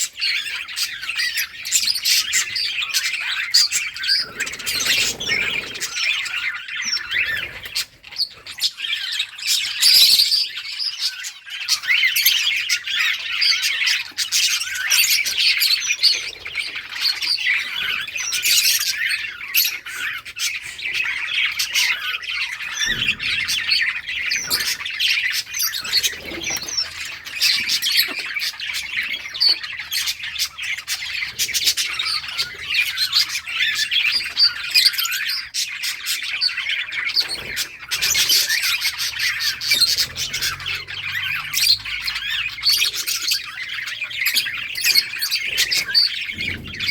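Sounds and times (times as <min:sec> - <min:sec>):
budgerigars chattering: 0:00.0 - 0:46.9.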